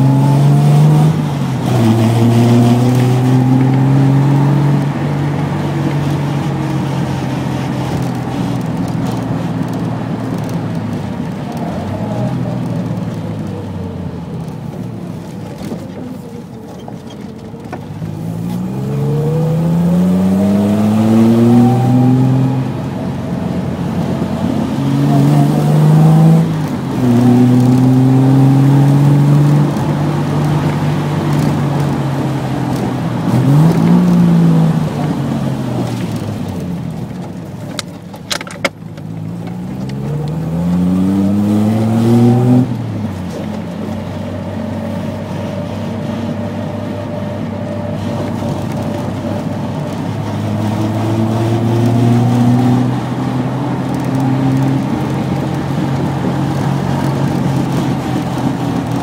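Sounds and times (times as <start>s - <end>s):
car engine revving: 0.0s - 14.8s, 17.8s - 37.6s, 38.4s - 59.0s.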